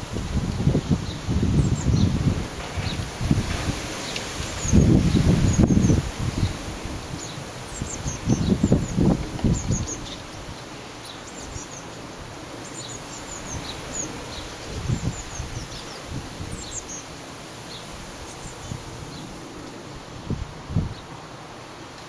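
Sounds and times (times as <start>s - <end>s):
wind buffeting microphone: 0.0s - 10.7s, 13.3s - 17.2s, 17.8s - 21.2s.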